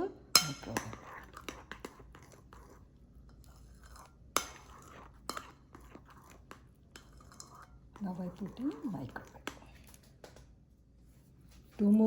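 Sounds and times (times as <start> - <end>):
spoon scraping thick mixture: 0.4 - 10.2.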